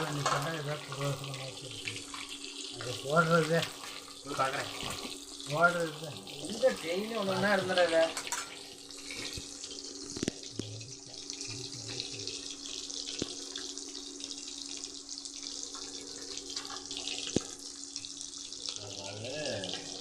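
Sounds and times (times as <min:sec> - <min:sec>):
fish sizzling in hot oil: 0:00.0 - 0:20.0
oil popping and crackling: 0:00.0 - 0:20.0.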